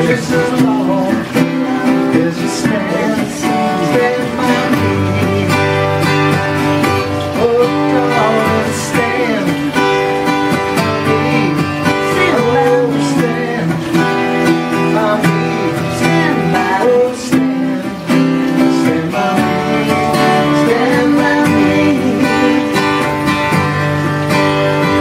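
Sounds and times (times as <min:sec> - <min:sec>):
person singing: 0:00.0 - 0:23.5
acoustic guitars strumming: 0:00.0 - 0:25.0.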